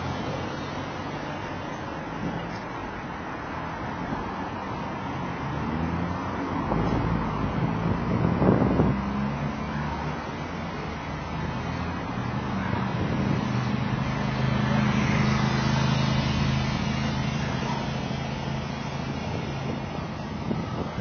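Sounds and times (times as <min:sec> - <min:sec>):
vehicle engine hum: 0:00.0 - 0:21.0
wind and road noise: 0:00.0 - 0:21.0.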